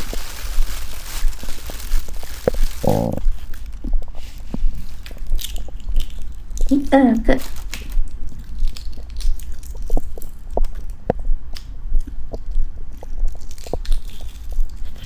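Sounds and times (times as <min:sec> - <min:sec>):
crunchy eating: 0:00.0 - 0:15.0.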